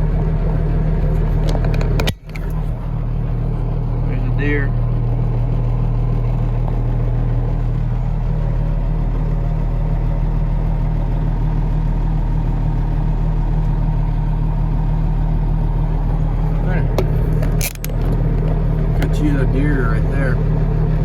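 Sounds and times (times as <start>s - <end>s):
tractor diesel engine drone: 0.0s - 21.0s.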